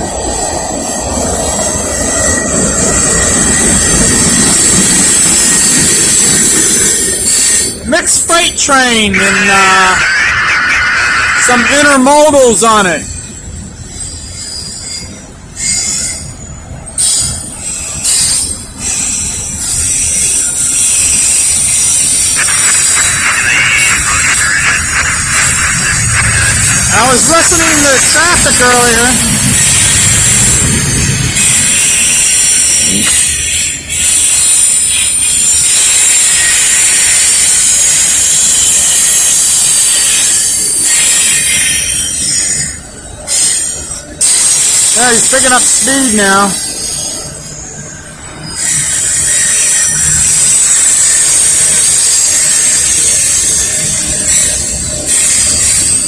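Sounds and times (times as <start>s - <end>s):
low train rumble: 0.0s - 56.0s
train wheels squealing: 0.0s - 56.0s.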